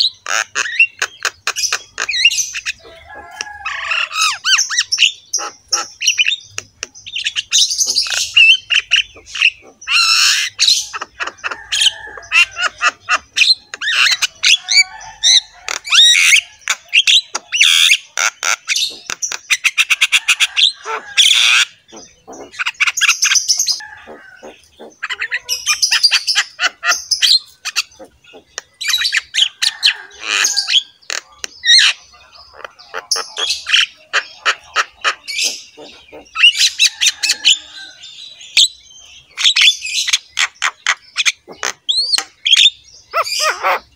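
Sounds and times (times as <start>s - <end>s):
birds chirping and squawking: 0.0s - 43.9s.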